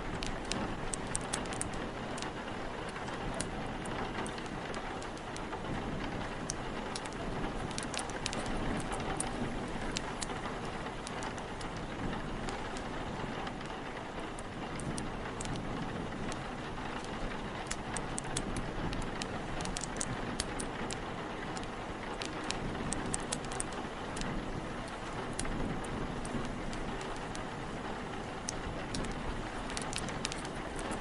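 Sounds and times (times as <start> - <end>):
low wind rumble: 0.0 - 31.0
steady rain: 0.0 - 31.0
wood fire crackling: 0.0 - 31.0.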